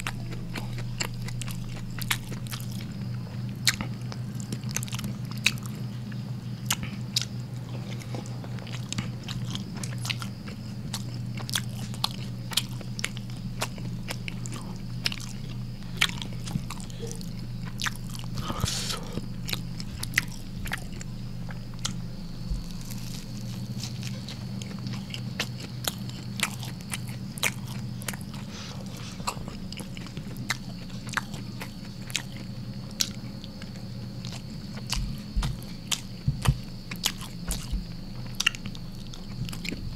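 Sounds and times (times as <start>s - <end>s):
person chewing food: 0.0s - 39.9s
steady low hum: 0.0s - 39.9s.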